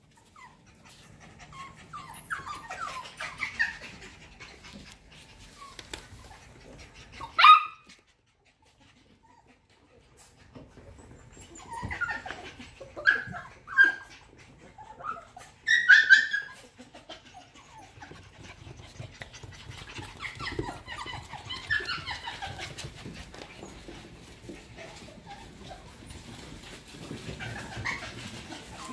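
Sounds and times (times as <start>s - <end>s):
puppies yipping and whining: 0.0s - 28.9s.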